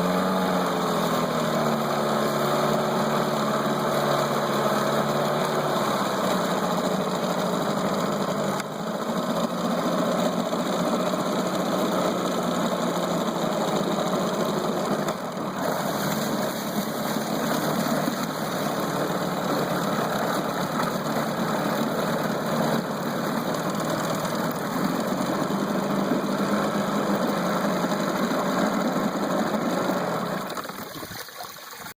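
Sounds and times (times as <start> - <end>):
outboard motor running: 0.0 - 31.9.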